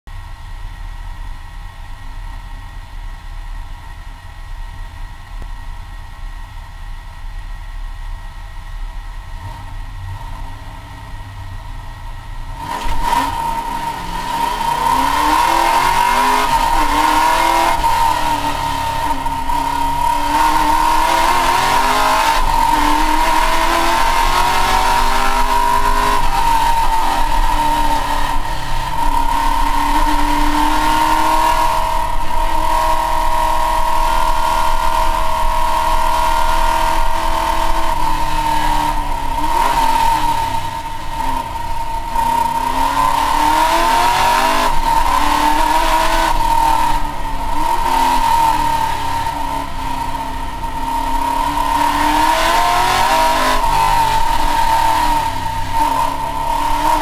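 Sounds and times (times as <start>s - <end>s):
car engine idling: 0.1s - 57.0s
high whine: 0.1s - 57.0s.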